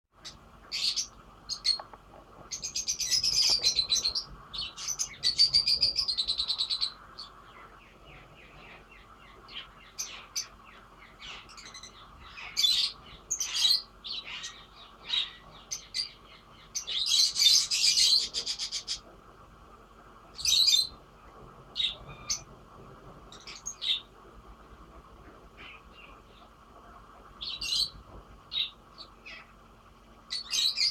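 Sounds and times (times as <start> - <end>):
lovebirds chirping: 0.2 - 19.1, 20.3 - 22.5, 23.3 - 24.1, 27.3 - 30.9
rapid bird chatter: 0.2 - 22.5, 23.2 - 30.9.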